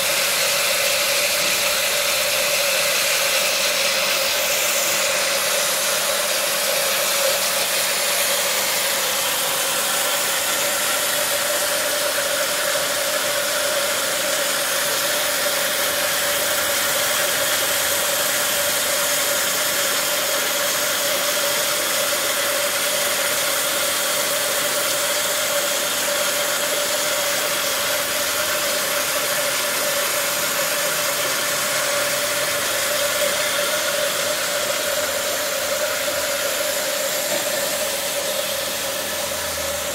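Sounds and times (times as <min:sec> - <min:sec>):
electric water pump humming: 0:00.0 - 0:39.9.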